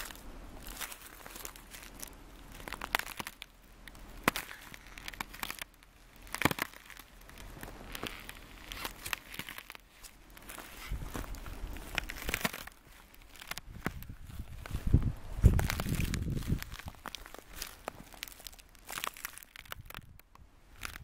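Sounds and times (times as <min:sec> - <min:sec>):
boots cracking thin ice: 0:00.0 - 0:21.0.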